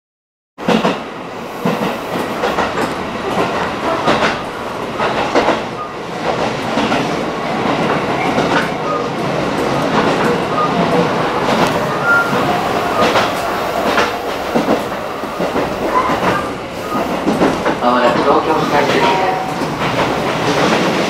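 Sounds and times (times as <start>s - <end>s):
train running: 0.6s - 21.0s
wheels clacking over rail joints: 1.6s - 21.0s.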